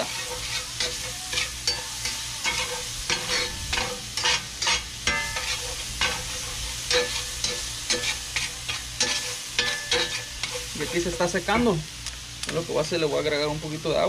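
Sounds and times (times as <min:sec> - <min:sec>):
metal spatula scraping a skillet: 0:00.0 - 0:11.8
meat sizzling in a skillet: 0:00.0 - 0:14.0.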